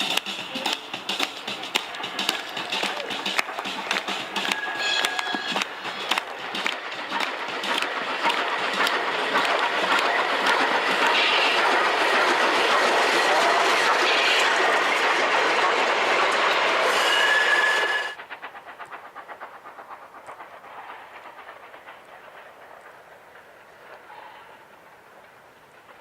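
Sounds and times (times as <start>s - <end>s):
train running on rails: 0.0s - 26.0s
wheels clickety-clack over rails: 0.0s - 26.0s.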